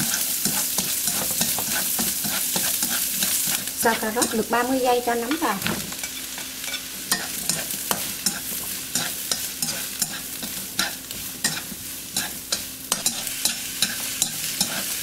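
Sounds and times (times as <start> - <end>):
chopsticks tapping pan: 0.0 - 14.9
vegetables sizzling in oil: 0.0 - 15.0.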